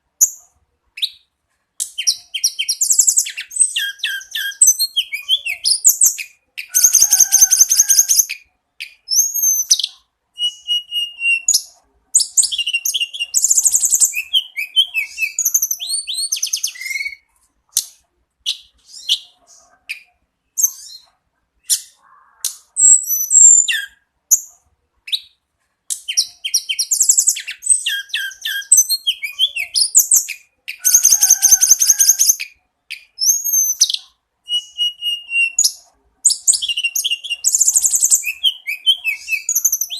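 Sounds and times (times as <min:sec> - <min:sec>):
songbird singing trills and whistles: 0:00.2 - 0:39.9.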